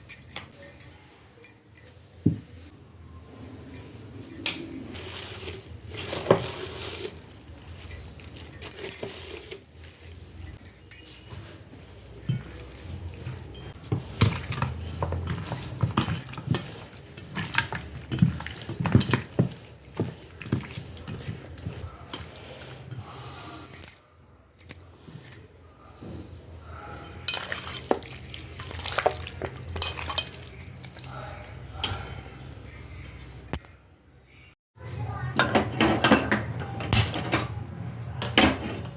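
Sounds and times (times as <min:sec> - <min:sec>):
utensils and dishes clinking: 0:00.0 - 0:02.7, 0:03.4 - 0:25.6, 0:27.0 - 0:33.9, 0:34.8 - 0:38.9.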